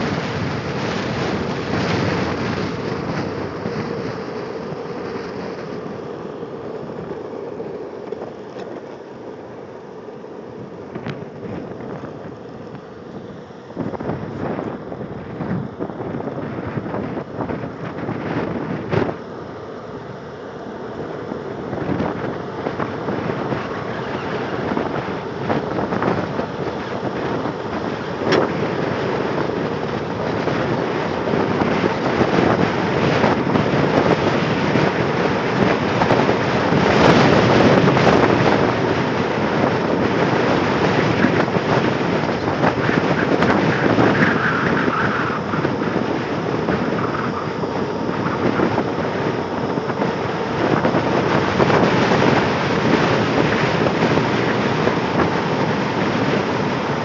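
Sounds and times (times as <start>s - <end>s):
wheels rolling on asphalt: 0.0s - 57.0s
wind rushing over microphone: 0.0s - 57.0s.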